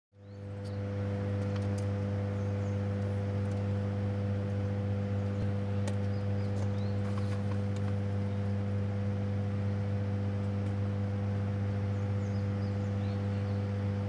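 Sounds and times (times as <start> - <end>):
low electrical hum: 0.2 - 14.0.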